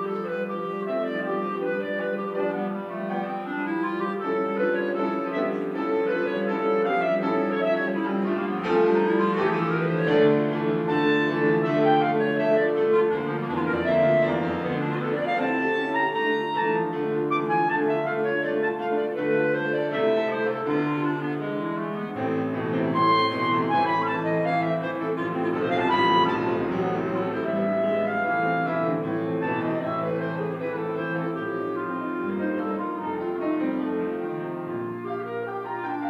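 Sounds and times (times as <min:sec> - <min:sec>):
clarinet playing: 0:00.0 - 0:36.0
piano accompaniment: 0:00.0 - 0:36.0.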